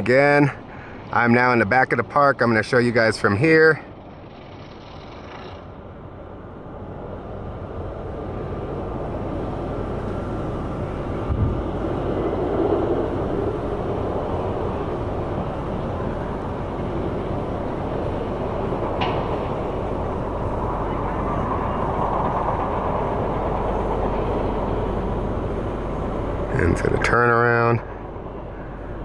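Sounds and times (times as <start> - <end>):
roller coaster rumbling on track: 0.0 - 29.0.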